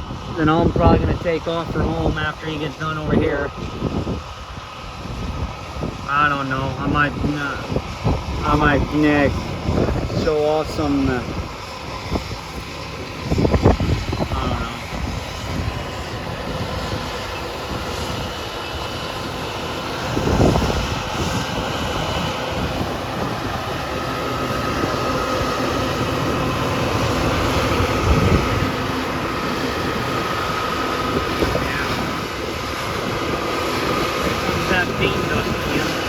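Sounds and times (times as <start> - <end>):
faint steady whine: 0.0 - 36.0
harvest machinery running: 5.6 - 36.0.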